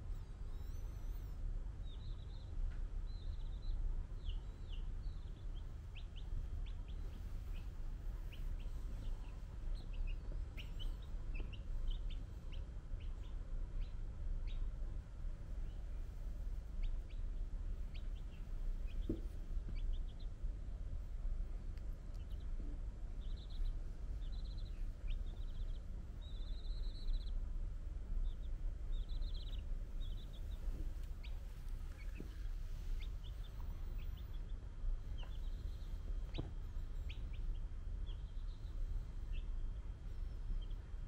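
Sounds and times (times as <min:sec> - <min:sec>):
baby chick peeping: 0:00.0 - 0:41.0
steady low rumble: 0:00.0 - 0:41.0.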